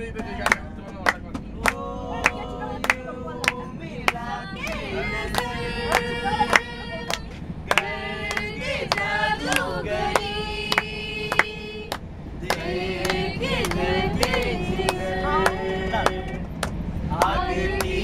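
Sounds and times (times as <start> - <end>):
group singing: 0.0 - 18.0
hand claps: 0.2 - 3.6, 4.7 - 17.9.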